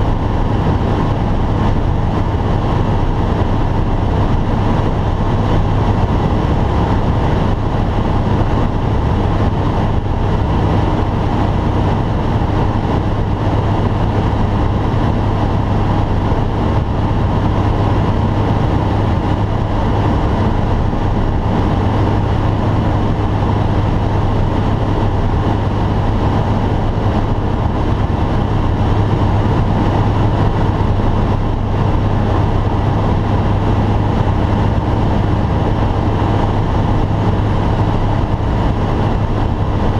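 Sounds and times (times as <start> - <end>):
airflow noise: 0.0 - 39.9
light aircraft engine drone: 0.0 - 39.9.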